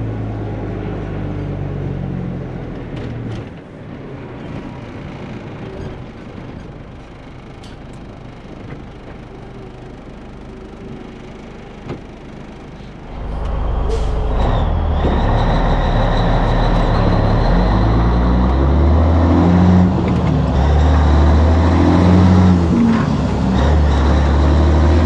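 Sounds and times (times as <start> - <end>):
truck diesel engine: 0.0 - 25.0.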